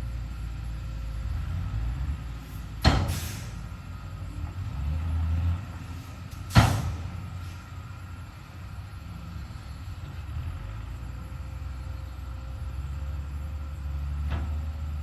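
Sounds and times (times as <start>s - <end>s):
diesel engine running low: 0.0s - 15.0s.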